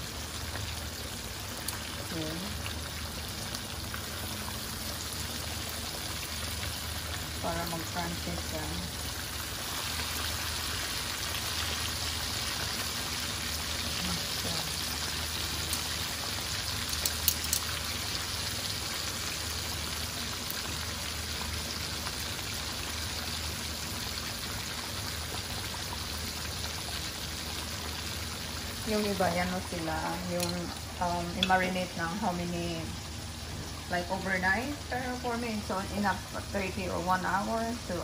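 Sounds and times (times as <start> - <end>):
chicken deep-frying in oil: 0.0 - 38.0.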